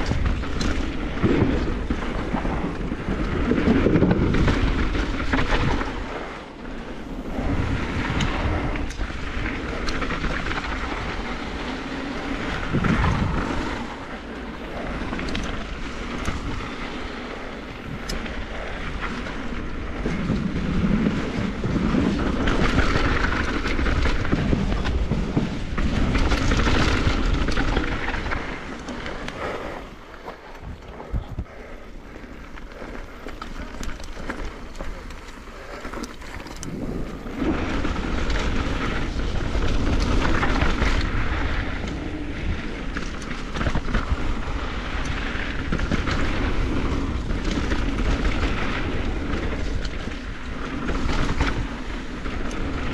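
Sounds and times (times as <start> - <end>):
bike rattling over bumps: 0.0 - 52.9
steady rushing noise: 0.0 - 52.9
tyres rolling over dirt and gravel: 0.0 - 52.9.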